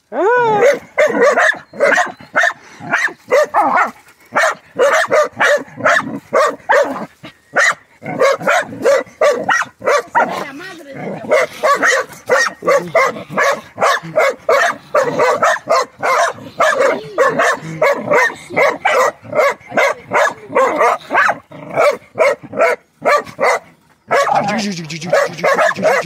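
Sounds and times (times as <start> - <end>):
dog barking: 0.5 - 26.0
dog digging: 1.2 - 24.5, 25.1 - 26.0.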